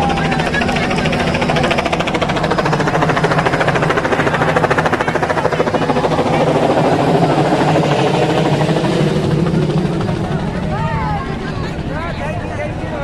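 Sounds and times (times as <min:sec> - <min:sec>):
loud engine drone: 0:00.0 - 0:13.0.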